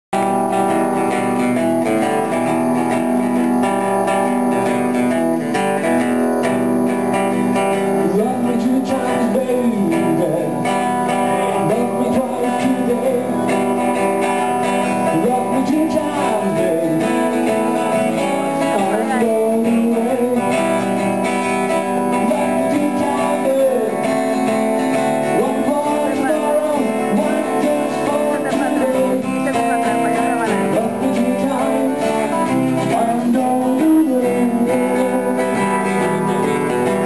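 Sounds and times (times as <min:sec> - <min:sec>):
acoustic guitar strumming: 0:00.2 - 0:37.0
man singing: 0:07.3 - 0:37.0.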